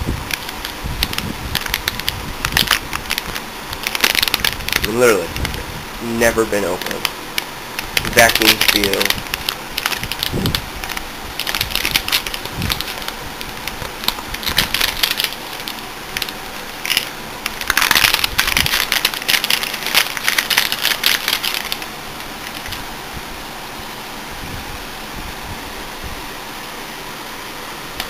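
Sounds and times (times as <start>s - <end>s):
plastic packaging crinkling: 0.0s - 22.9s.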